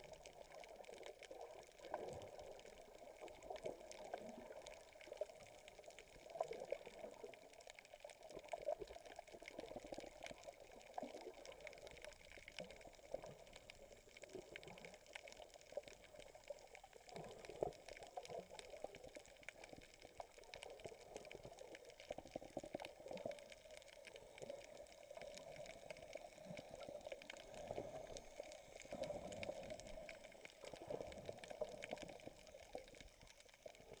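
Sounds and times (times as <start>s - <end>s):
muffled underwater water sloshing: 0.0s - 34.0s.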